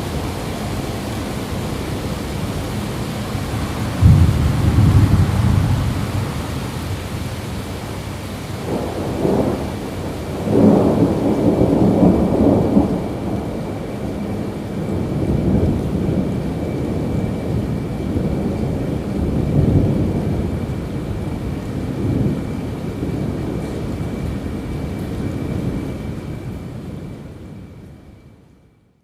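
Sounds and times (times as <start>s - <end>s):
steady rainfall: 0.0s - 28.6s
thunder rolling: 1.6s - 27.1s.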